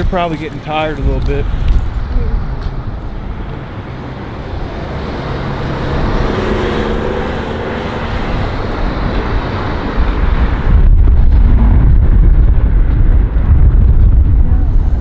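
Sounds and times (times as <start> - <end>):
wind buffeting microphone: 0.0 - 15.0
vehicle passing by: 1.4 - 13.6.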